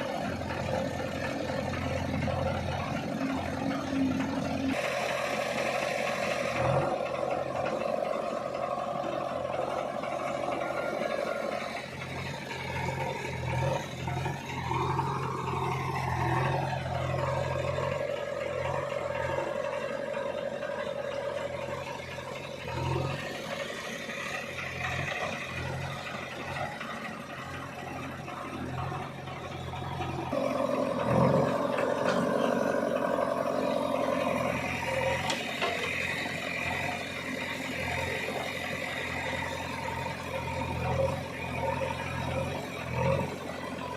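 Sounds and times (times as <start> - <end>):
diesel engine running under load: 0.0 - 43.9
steady engine whine: 0.0 - 43.9.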